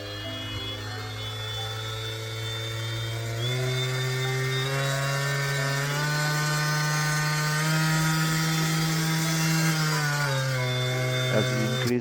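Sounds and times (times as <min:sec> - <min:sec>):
orbital sander motor humming: 0:00.0 - 0:12.0.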